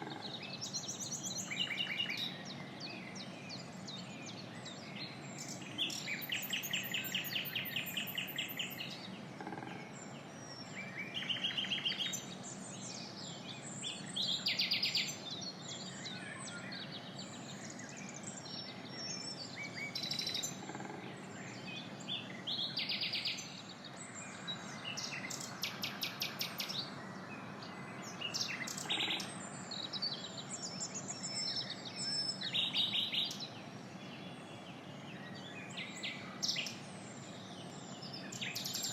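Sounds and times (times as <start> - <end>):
birds chirping and singing: 0.0 - 38.9
steady background hiss: 0.0 - 38.9.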